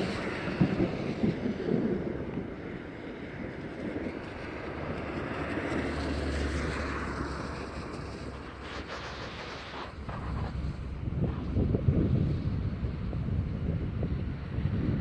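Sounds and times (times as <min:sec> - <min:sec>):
wind blowing over microphone: 0:00.0 - 0:15.0.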